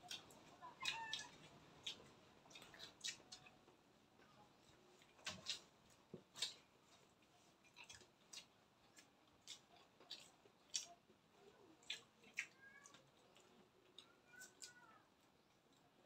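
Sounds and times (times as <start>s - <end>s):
people chewing with wet smacks: 0.0s - 16.0s.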